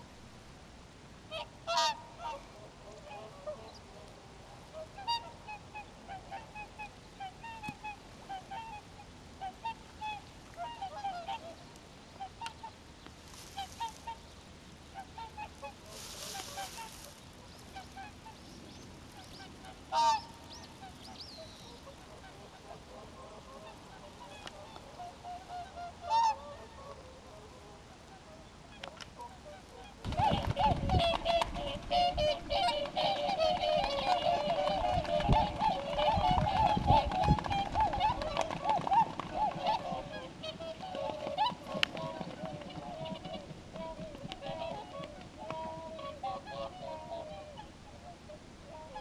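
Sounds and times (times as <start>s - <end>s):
swans honking: 1.3s - 3.9s, 4.8s - 11.6s, 12.2s - 14.3s, 14.9s - 27.5s, 28.8s - 49.0s.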